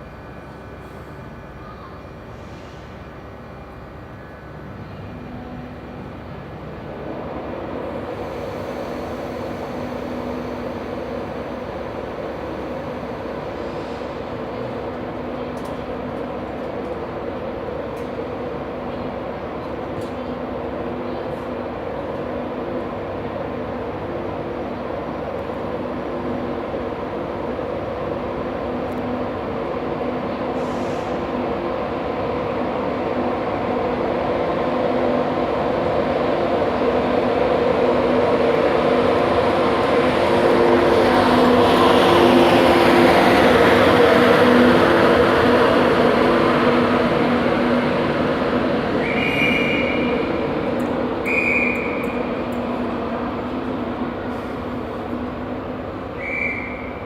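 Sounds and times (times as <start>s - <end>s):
train humming: 0.0s - 57.0s.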